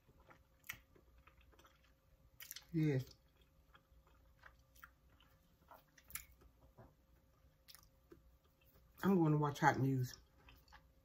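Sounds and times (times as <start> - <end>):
faint chewing: 0.0 - 9.0, 10.1 - 11.0.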